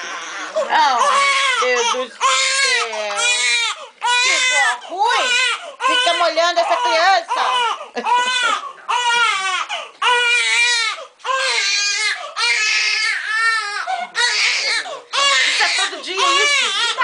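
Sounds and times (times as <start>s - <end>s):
baby crying: 0.0s - 17.0s.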